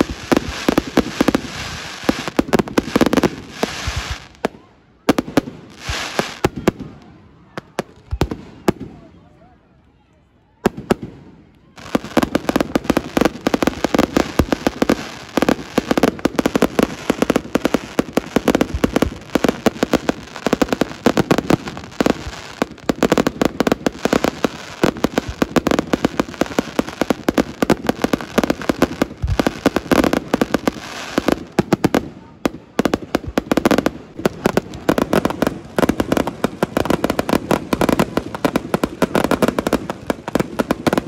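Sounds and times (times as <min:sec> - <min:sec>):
fireworks bangs and crackling: 0:00.0 - 0:09.2, 0:10.6 - 0:41.0.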